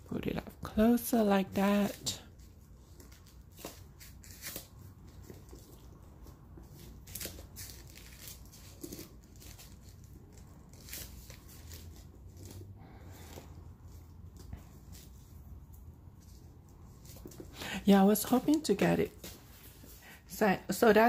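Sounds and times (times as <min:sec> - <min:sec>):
soft rustling: 0:00.2 - 0:21.0.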